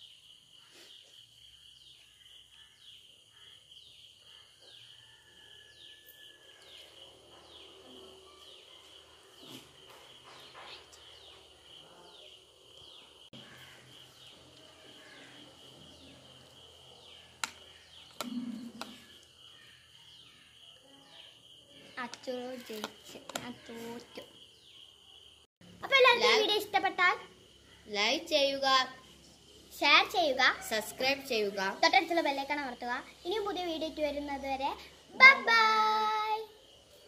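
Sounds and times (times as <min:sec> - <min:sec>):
birds chirping: 0:00.0 - 0:30.8.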